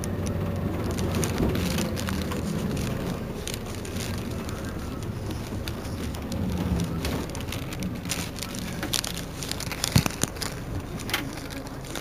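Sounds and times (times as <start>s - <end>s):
bus engine idling: 0.0s - 12.0s
crackling clicks: 0.0s - 12.0s.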